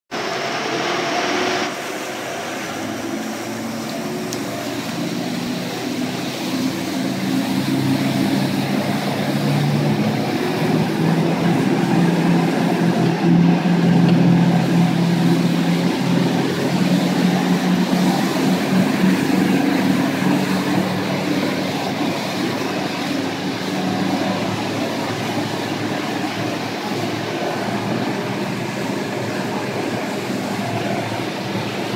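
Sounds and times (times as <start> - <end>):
boat diesel engines working hard: 0.1 - 31.9
rush of wake water: 0.1 - 31.9.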